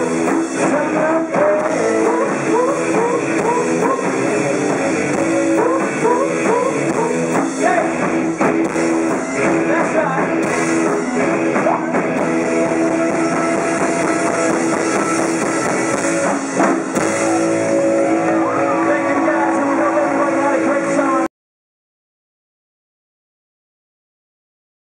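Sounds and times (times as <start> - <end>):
bass guitar: 0.0 - 21.3
drum kit: 0.0 - 21.3
electric guitar: 0.0 - 21.3.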